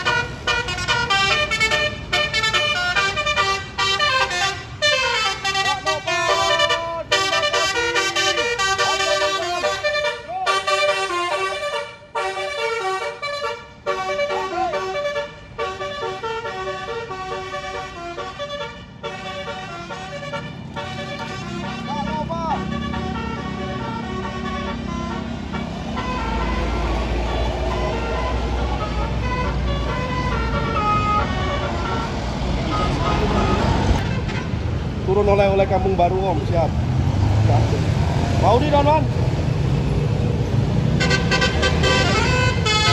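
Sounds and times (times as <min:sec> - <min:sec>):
musical horn playing a melody: 0:00.0 - 0:34.5, 0:41.0 - 0:42.9.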